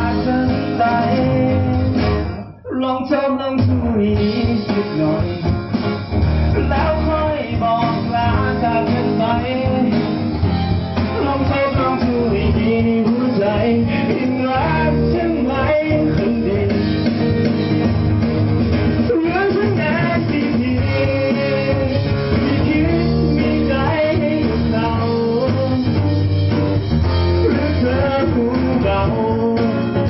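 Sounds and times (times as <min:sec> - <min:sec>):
person singing into a microphone: 0:00.0 - 0:05.8, 0:06.5 - 0:10.4, 0:11.0 - 0:17.4, 0:19.0 - 0:26.3, 0:27.3 - 0:30.0
acoustic guitar: 0:00.0 - 0:30.0
keyboard: 0:00.0 - 0:30.0.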